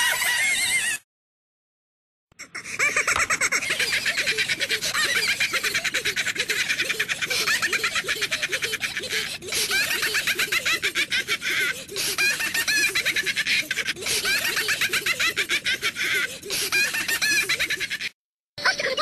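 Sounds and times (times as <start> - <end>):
sped-up squeaky giggling chatter: 2.4 - 19.0.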